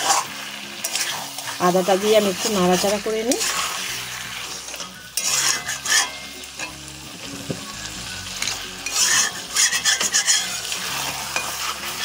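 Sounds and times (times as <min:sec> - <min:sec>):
food sizzling: 0:00.0 - 0:12.0
spatula scraping a pan: 0:00.0 - 0:12.0.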